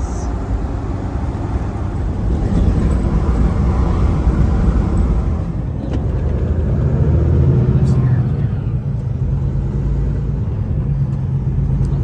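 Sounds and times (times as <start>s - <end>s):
truck engine and tyre drone: 0.0s - 12.0s.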